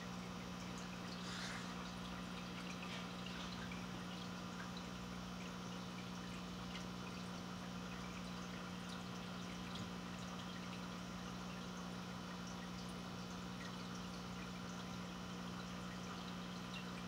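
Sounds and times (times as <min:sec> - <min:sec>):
low pump hum: 0:00.0 - 0:17.0
water trickling and dripping: 0:00.0 - 0:17.0
small bubble ticks: 0:01.9 - 0:17.0.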